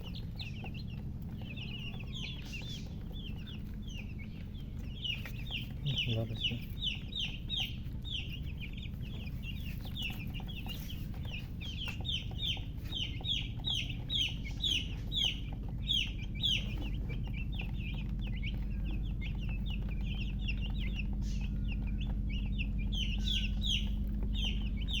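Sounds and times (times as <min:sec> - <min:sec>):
chicks peeping: 0:00.0 - 0:25.0
steady low hum: 0:00.0 - 0:25.0.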